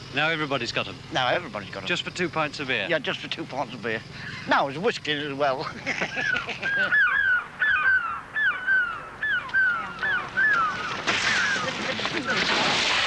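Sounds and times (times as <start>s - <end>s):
birds calling: 0.0s - 12.7s.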